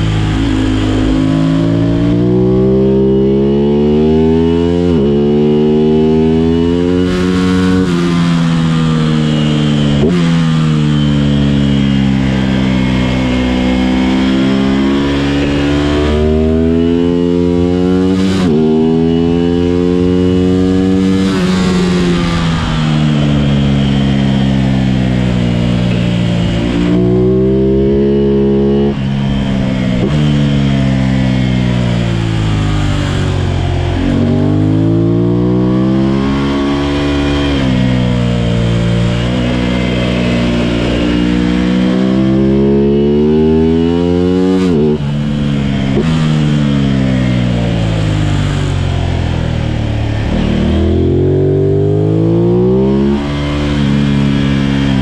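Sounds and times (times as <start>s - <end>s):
racing engine accelerating: 0.0s - 55.0s.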